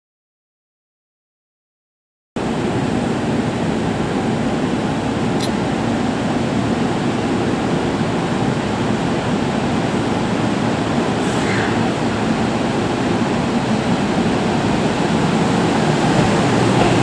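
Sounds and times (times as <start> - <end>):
electric train humming: 2.4 - 17.0.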